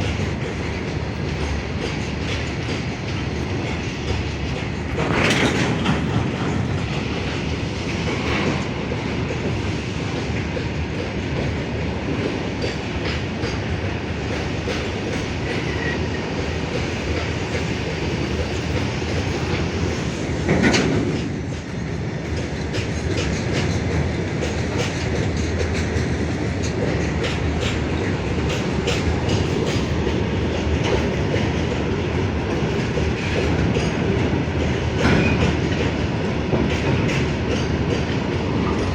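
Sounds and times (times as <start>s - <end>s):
freight train wheels rumbling: 0.0s - 38.9s
loud train clanks: 0.0s - 38.9s.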